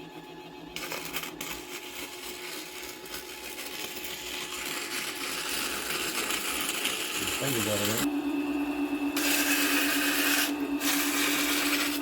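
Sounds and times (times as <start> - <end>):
lathe motor whine: 0.0 - 12.0
sandpaper rasping on metal spring: 0.8 - 8.0, 9.2 - 12.0.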